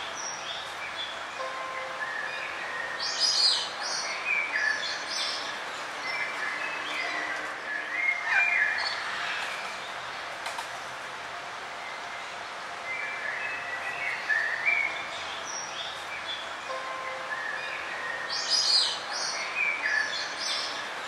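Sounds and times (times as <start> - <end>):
forest birds chirping: 0.0 - 21.0.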